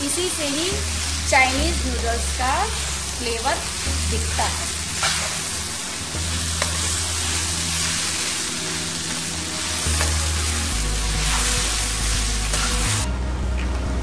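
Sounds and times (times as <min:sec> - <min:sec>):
noodles sizzling in a frying pan: 0:00.0 - 0:13.1.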